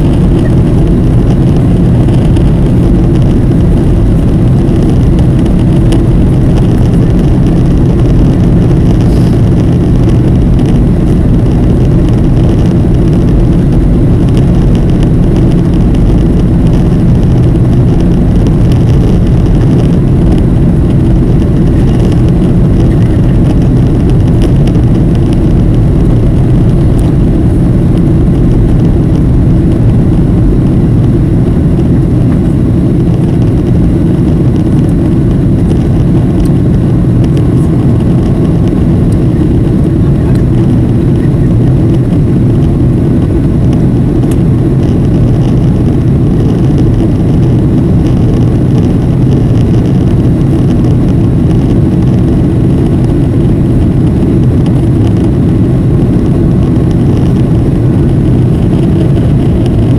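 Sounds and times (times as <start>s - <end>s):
jet engines in cabin: 0.0s - 59.9s.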